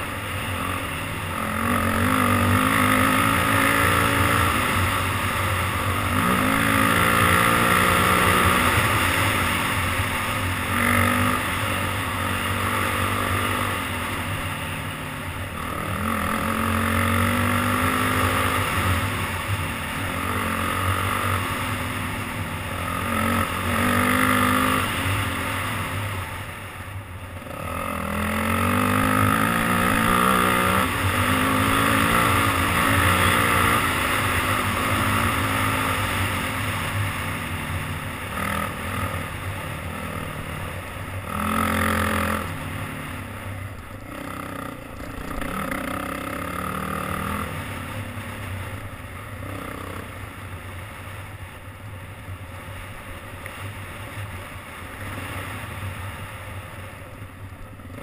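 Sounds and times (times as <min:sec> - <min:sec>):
dirt bike engine revving: 0:00.0 - 0:26.5, 0:27.4 - 0:43.4, 0:44.0 - 0:48.4.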